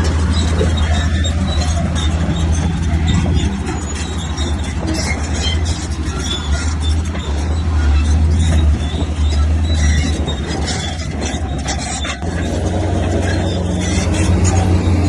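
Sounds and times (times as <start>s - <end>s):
bulldozer diesel engine drone: 0.0s - 15.0s
steel tracks squeaking and clanking: 0.0s - 15.0s.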